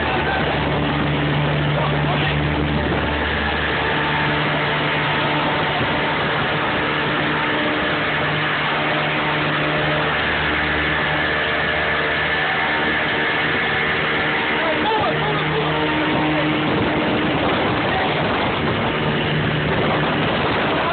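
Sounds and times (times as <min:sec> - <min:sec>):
outboard motor humming: 0:00.0 - 0:20.9.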